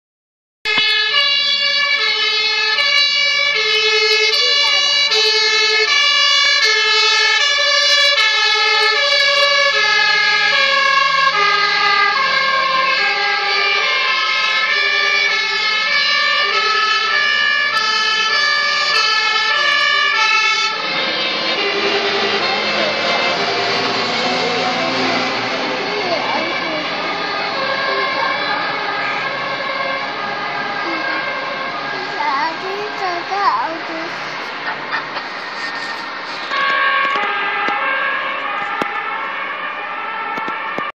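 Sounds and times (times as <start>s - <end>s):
two-tone fire engine sirens: 0.7s - 40.9s.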